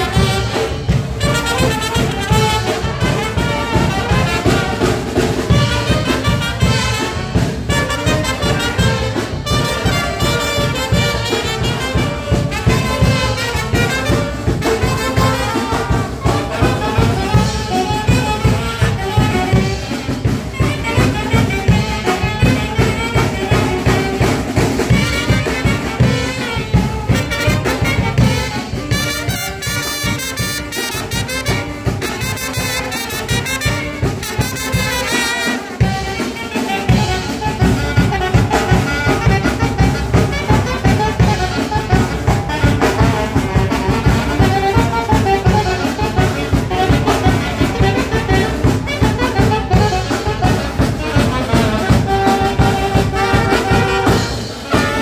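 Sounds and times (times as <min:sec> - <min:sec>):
saxophones and trumpet playing: 0:00.0 - 0:55.0
snare and bass drum beat: 0:00.0 - 0:55.0.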